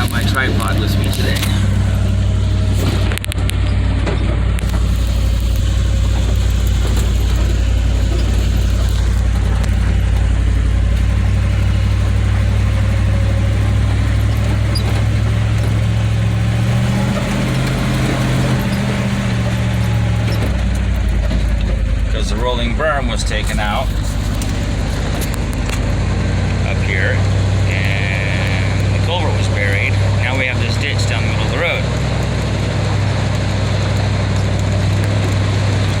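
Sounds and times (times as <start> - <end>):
vehicle engine droning: 0.0 - 36.0.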